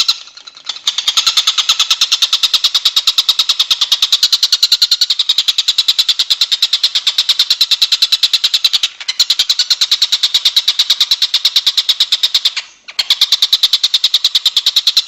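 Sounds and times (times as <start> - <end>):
songbird trill: 0.0 - 15.0.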